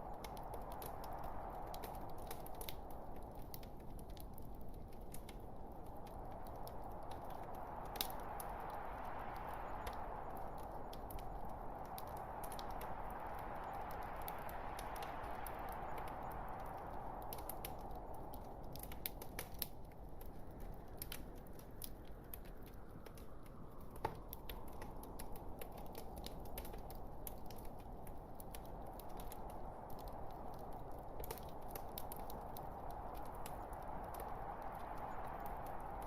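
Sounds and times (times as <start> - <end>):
logs crackling and popping: 0.0 - 36.0.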